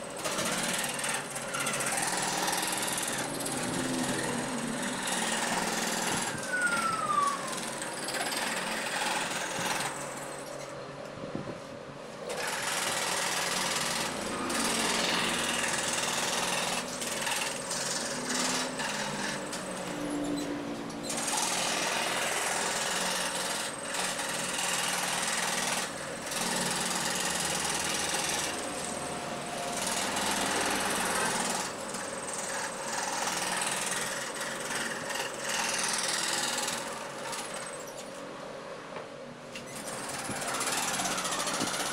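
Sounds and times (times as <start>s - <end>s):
jigsaw cutting wood: 0.0s - 10.4s, 12.2s - 37.8s, 39.8s - 41.9s.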